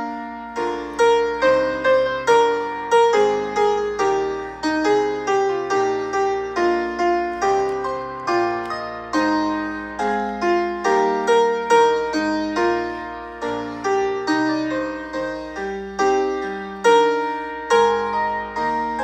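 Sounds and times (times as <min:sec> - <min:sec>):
piano playing chords: 0:00.0 - 0:19.0.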